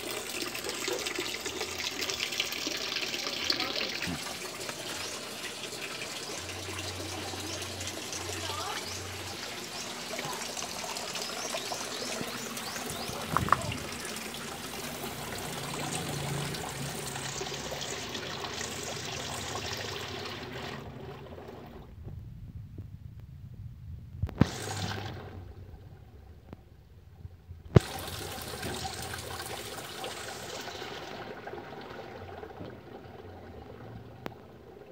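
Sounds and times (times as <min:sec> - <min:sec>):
water pouring into pond: 0:00.0 - 0:22.1, 0:24.3 - 0:26.7, 0:27.7 - 0:34.9.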